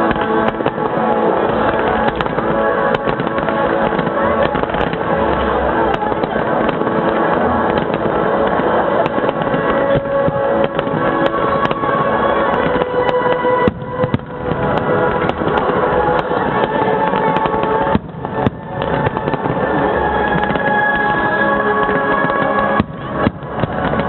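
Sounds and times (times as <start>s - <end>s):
fireworks bangs: 0.0s - 24.0s
music playing: 0.0s - 24.0s.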